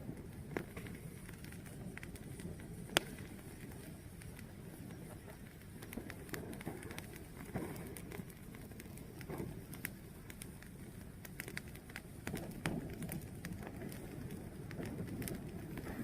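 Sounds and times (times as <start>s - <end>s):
fire crackling and popping: 0.0s - 16.0s
low rush of flame: 0.0s - 16.0s.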